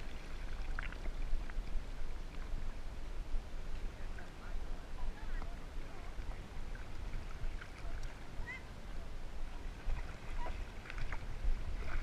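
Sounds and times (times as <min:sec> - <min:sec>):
water sloshing and lapping: 0:00.0 - 0:02.9, 0:03.6 - 0:12.0
steady low rumble: 0:00.0 - 0:12.0.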